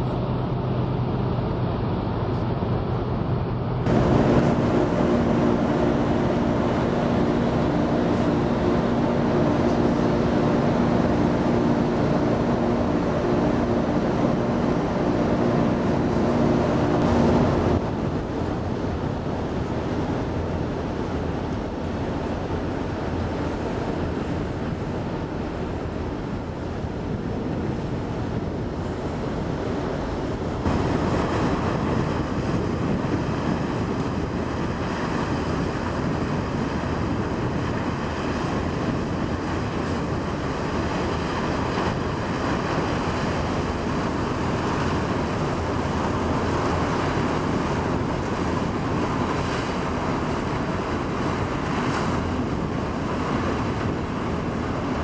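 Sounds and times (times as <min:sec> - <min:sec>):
ferry wake churning: 0:00.0 - 0:55.0
wind on microphone: 0:00.0 - 0:55.0.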